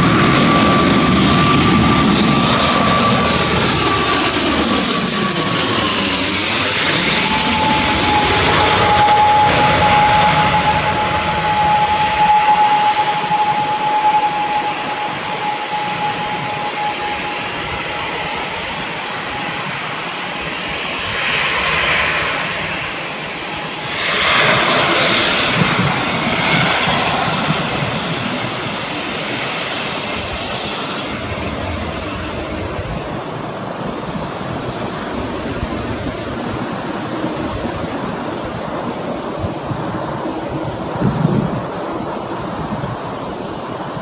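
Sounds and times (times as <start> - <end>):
high steady engine whine: 0.0 - 44.0
turboprop engines running: 0.0 - 44.0.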